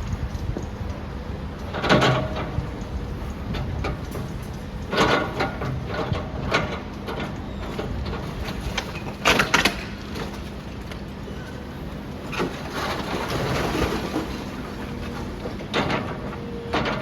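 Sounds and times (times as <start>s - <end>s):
demolition machinery running: 0.0s - 17.0s.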